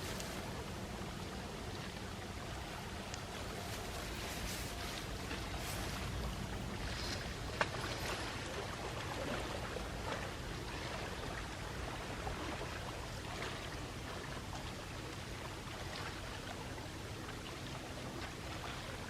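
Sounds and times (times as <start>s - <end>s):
small waves lapping on shore: 0.0s - 19.0s.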